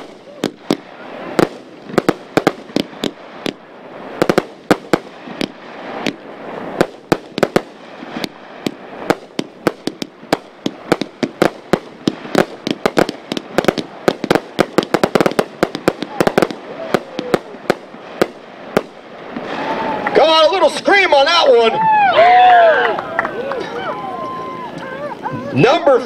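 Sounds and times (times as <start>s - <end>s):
firework shot reports: 0.0s - 21.6s
firework crackle: 0.0s - 26.0s.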